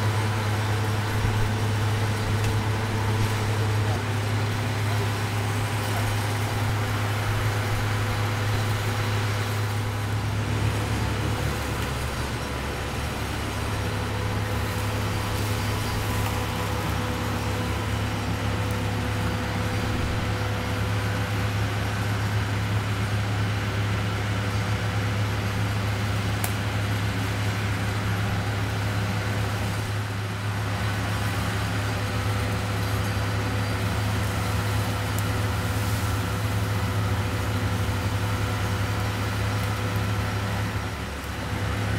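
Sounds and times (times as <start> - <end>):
heavy engine running steadily: 0.0 - 41.9.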